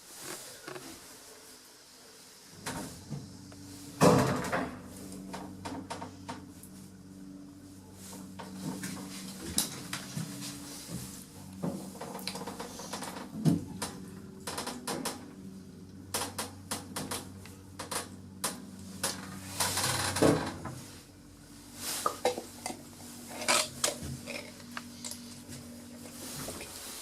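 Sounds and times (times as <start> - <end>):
lift machinery humming: 2.5 - 27.0.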